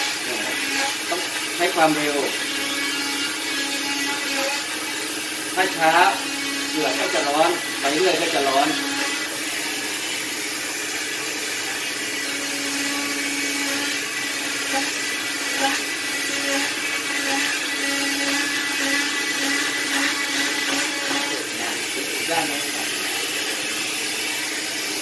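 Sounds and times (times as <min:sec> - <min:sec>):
blade grinding on cast: 0:00.0 - 0:25.0
saw motor whine: 0:00.0 - 0:25.0.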